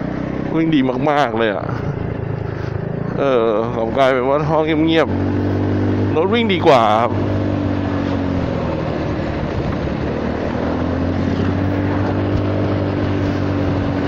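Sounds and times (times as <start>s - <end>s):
scooter engine running: 0.0s - 14.0s
wind and road rush: 0.0s - 14.0s.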